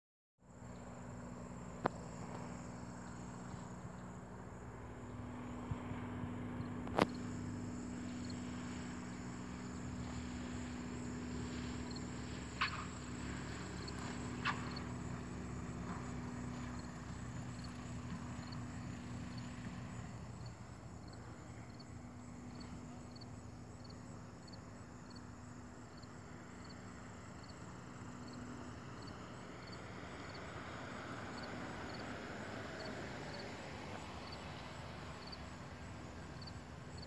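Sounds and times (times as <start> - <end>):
distant aircraft engine drone: 0.4 - 37.0.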